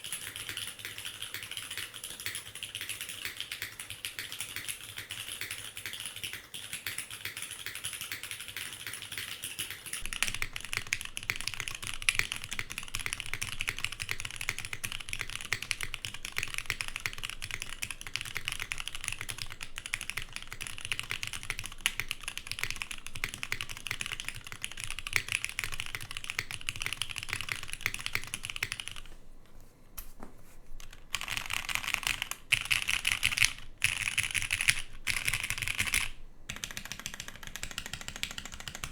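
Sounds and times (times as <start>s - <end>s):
mechanical keyboard typing: 0.0s - 29.2s, 30.8s - 38.9s.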